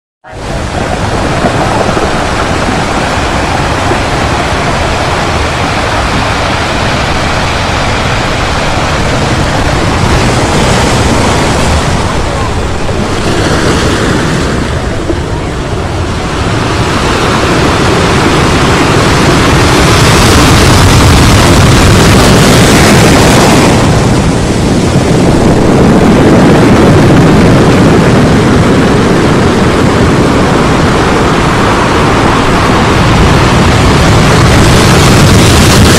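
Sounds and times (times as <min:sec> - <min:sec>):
loud steady rushing noise: 0:00.2 - 0:35.9.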